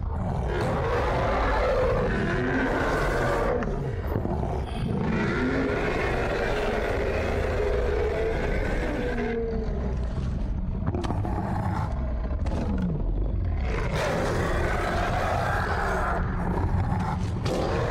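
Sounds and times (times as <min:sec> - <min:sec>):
low rumbling growl: 0:00.0 - 0:17.9.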